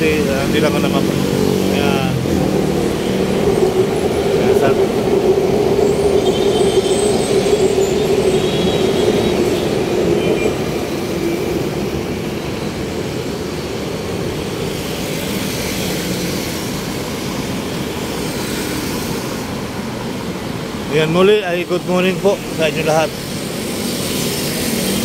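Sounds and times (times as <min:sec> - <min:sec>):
city road traffic: 0:00.0 - 0:25.0.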